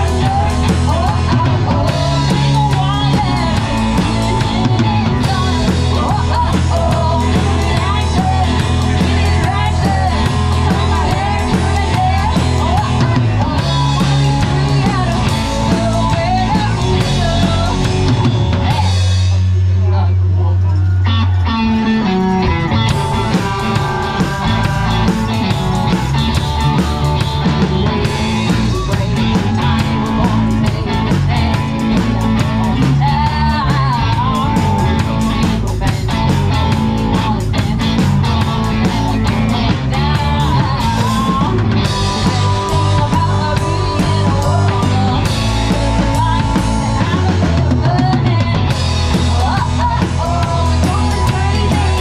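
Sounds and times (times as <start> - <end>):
drums and cymbals: 0.0 - 52.0
live rock band playing: 0.0 - 52.0
person singing: 0.0 - 52.0.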